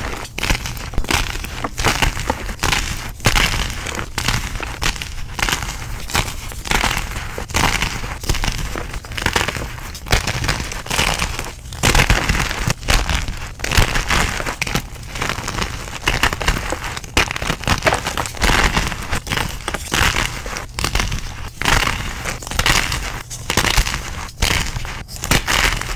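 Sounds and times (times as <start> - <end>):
chalk crunching and crumbling: 0.0 - 25.9.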